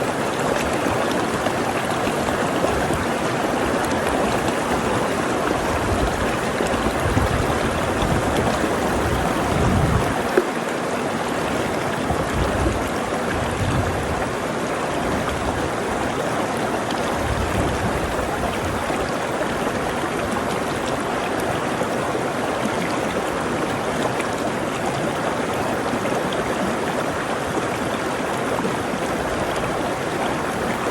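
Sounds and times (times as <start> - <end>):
stream water rushing: 0.0 - 30.9.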